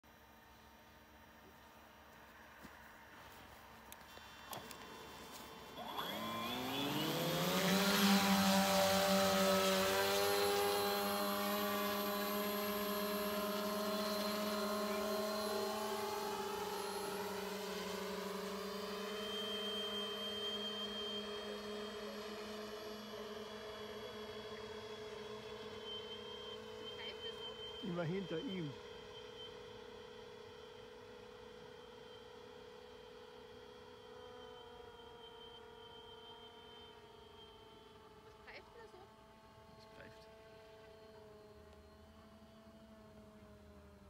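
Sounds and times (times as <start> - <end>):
model aircraft propeller drone: 0.0 - 44.0.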